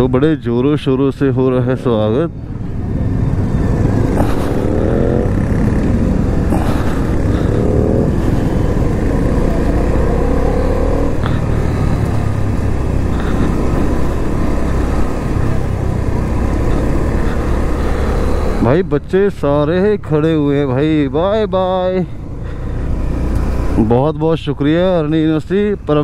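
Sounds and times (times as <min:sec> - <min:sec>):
other motorcycles running: 0:00.0 - 0:26.0
motorcycle engine accelerating: 0:01.7 - 0:23.9.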